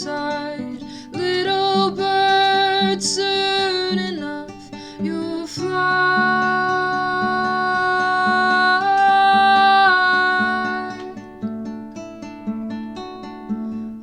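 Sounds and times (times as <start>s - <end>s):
fingerpicked acoustic guitar: 0.0s - 14.0s.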